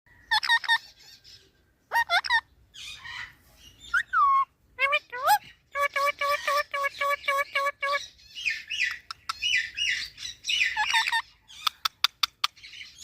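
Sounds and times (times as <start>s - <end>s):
parrots calling: 0.1s - 13.0s.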